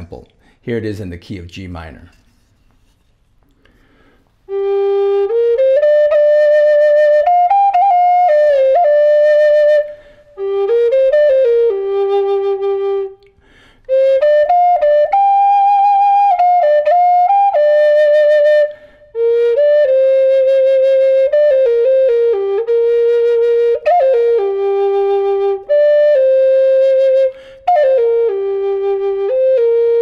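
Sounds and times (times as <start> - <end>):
flute playing slow melody: 4.4 - 30.0.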